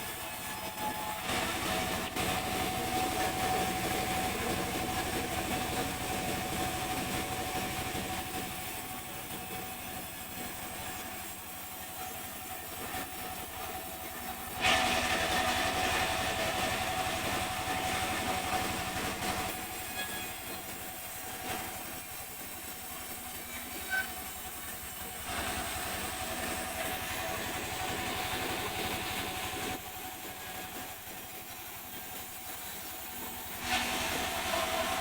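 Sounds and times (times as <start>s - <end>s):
sawmill saw cutting log: 0.0s - 35.0s.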